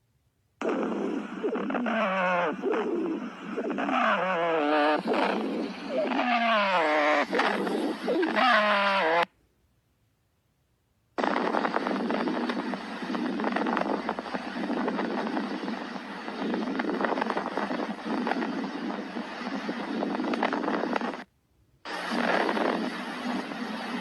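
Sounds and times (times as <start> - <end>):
crackling lung sounds: 0.6 - 9.3, 11.2 - 24.0.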